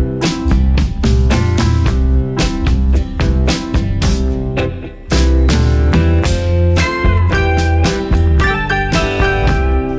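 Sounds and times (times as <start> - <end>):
guitar instrumental music: 0.0 - 9.9.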